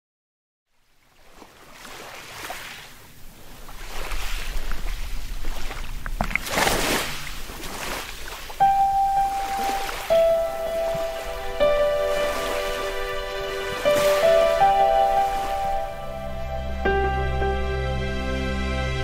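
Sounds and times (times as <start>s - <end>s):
sea water washing: 0.8s - 17.8s.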